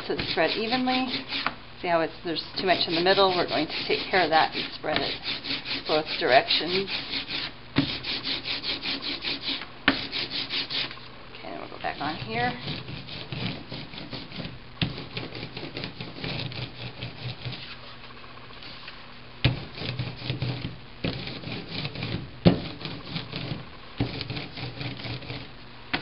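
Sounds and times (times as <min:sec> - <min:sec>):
ink roller crackling on plate: 0:00.0 - 0:01.6, 0:02.3 - 0:11.1, 0:11.7 - 0:26.0.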